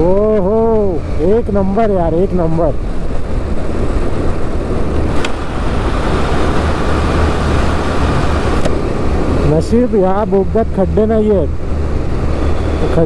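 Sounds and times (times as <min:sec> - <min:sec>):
motorcycle engine rumble: 0:00.0 - 0:13.0
traffic noise: 0:00.0 - 0:13.0.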